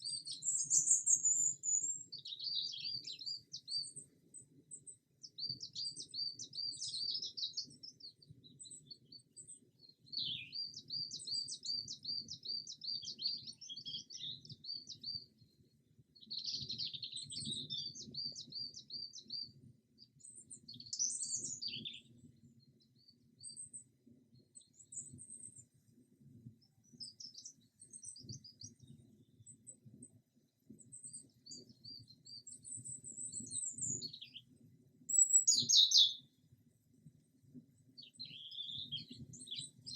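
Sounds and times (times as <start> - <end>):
songbirds singing: 0.0 - 15.4, 16.2 - 23.8, 26.6 - 29.8, 30.8 - 34.5, 35.1 - 36.4, 38.0 - 39.9.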